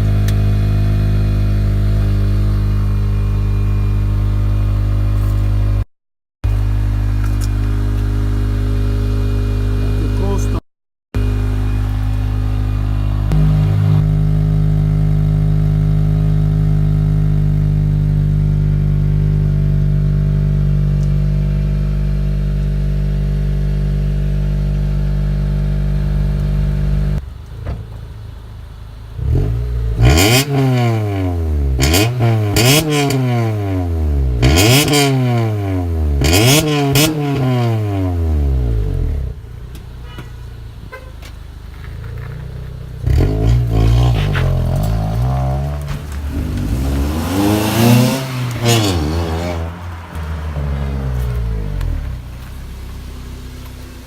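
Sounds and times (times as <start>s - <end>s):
car engine idling: 0.0s - 5.8s, 6.4s - 10.6s, 11.2s - 30.1s, 38.1s - 54.0s
car engine revving: 0.0s - 5.8s, 11.2s - 27.2s, 29.1s - 39.5s, 41.8s - 54.0s.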